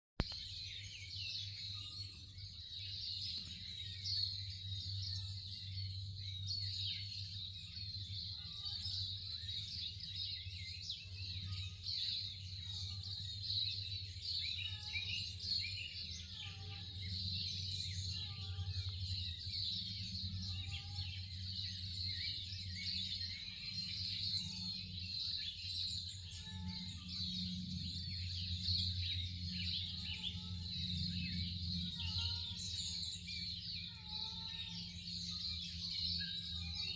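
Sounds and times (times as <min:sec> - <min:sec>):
chorus of birdsong: 0:00.2 - 0:36.9.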